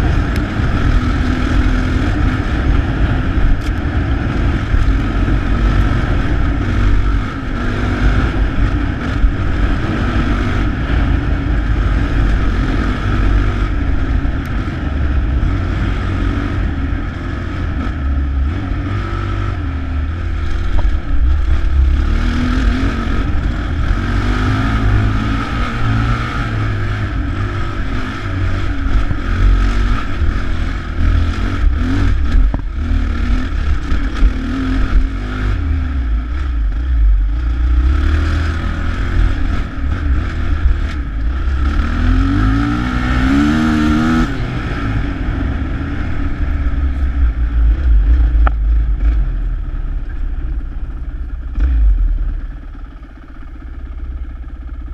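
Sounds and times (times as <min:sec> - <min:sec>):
dirt bike engine revving: 0:00.0 - 0:49.6.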